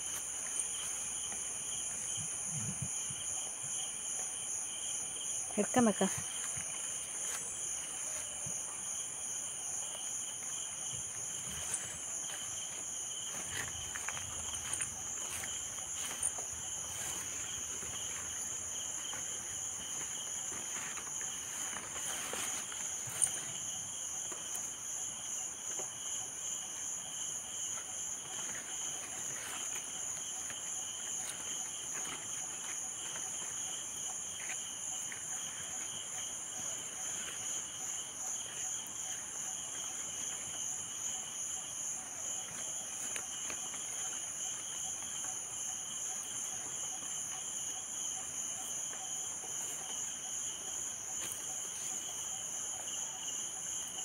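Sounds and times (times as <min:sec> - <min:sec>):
insects chorus: 0:00.0 - 0:54.0.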